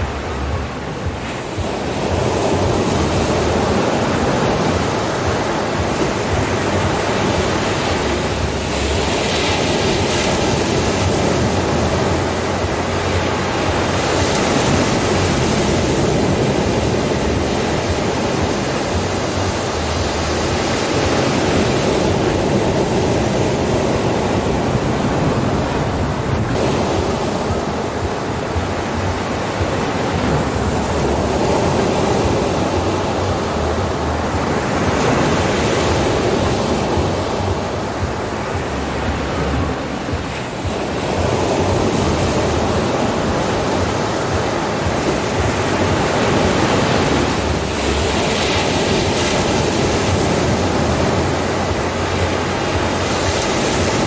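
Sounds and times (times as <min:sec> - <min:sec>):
ocean surf breaking: 0:00.0 - 0:54.0.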